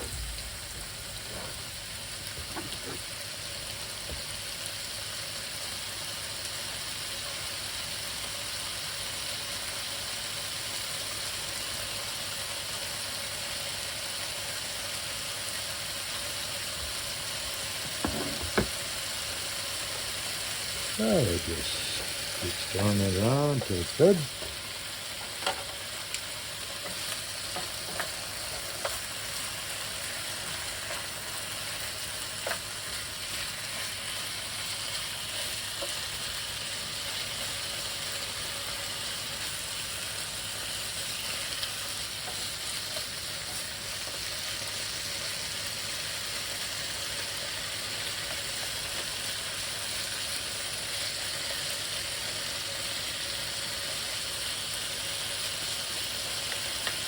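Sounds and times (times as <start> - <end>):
meat sizzling in a pan: 0.0 - 57.0.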